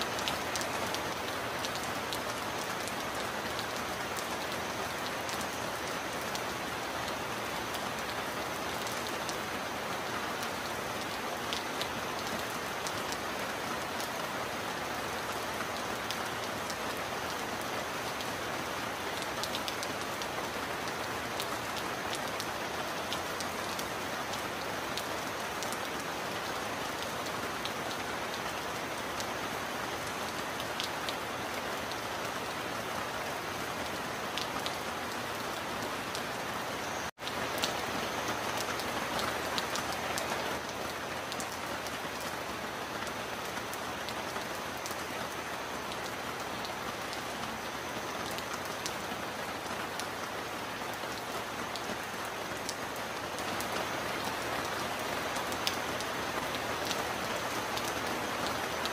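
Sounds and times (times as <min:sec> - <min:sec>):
heavy rain falling: 0:00.0 - 0:58.9
sharp ticks of raindrops: 0:00.0 - 0:58.9.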